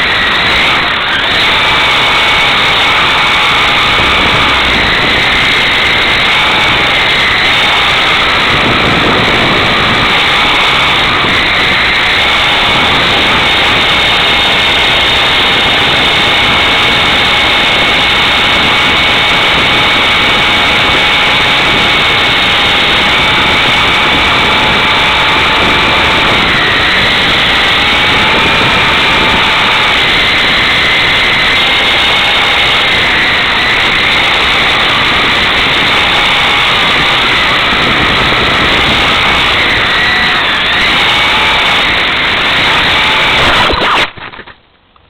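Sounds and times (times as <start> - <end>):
model helicopter motor whine: 0.0 - 44.1
rotors rushing: 0.0 - 44.5.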